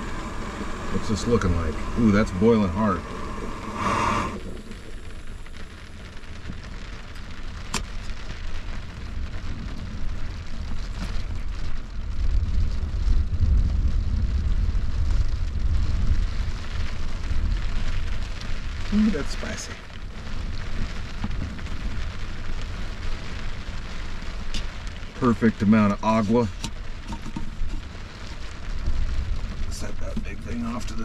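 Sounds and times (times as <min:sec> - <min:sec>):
rain on camper shell: 0:00.0 - 0:31.0.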